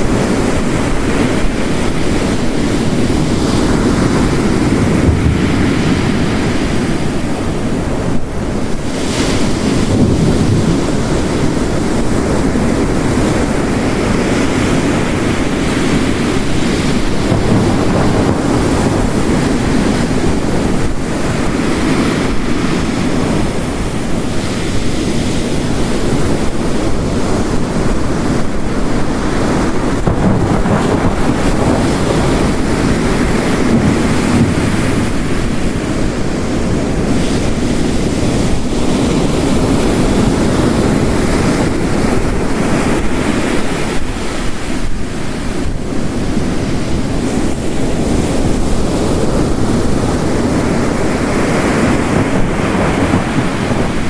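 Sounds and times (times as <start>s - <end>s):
heavy rain falling: 0.0s - 54.0s
waves crashing on rocks: 0.0s - 54.0s.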